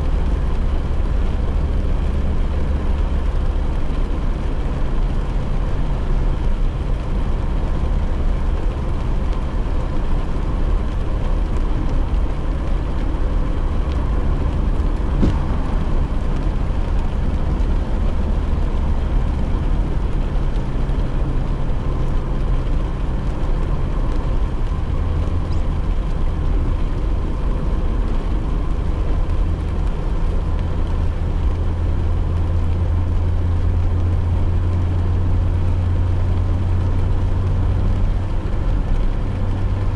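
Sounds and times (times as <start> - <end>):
car engine and tyre rumble: 0.0 - 39.9
rain on car: 0.0 - 39.9.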